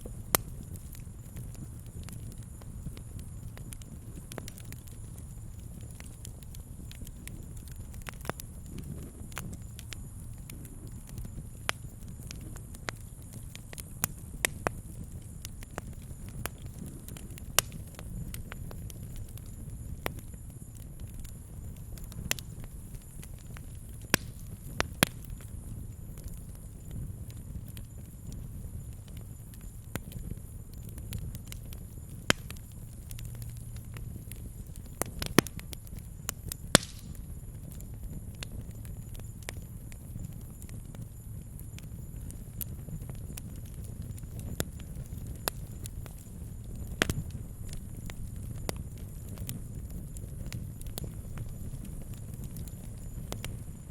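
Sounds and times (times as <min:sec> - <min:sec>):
low rumble of flames: 0:00.0 - 0:53.9
wood crackling and popping: 0:00.0 - 0:53.9.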